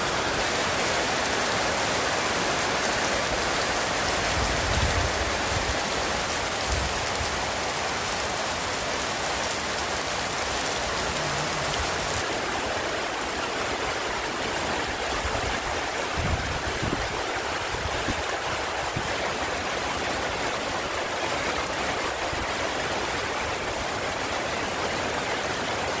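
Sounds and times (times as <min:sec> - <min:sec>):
rain falling steadily: 0:00.0 - 0:26.0.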